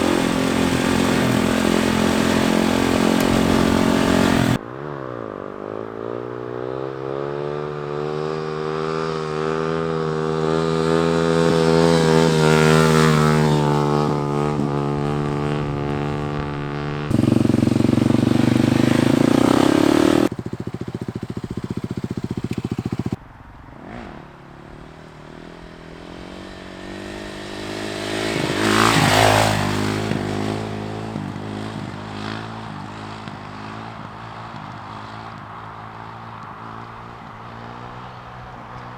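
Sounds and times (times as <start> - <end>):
dirt bike engine: 0.0 - 4.6, 9.3 - 23.2, 25.5 - 38.2.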